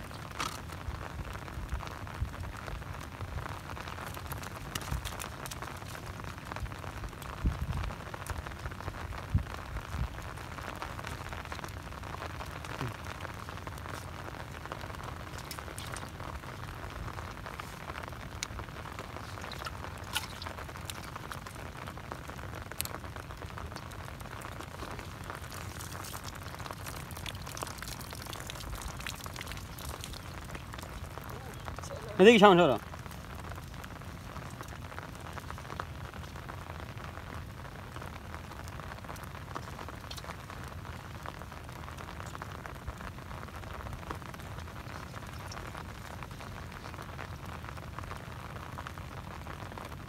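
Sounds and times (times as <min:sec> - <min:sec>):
rain on wet ground: 0:00.0 - 0:50.0.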